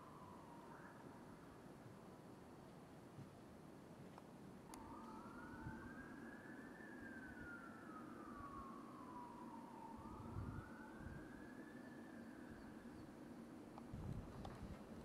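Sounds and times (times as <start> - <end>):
faint siren wailing: 0.0 - 2.7, 4.2 - 15.0
low steady hum: 0.0 - 15.0.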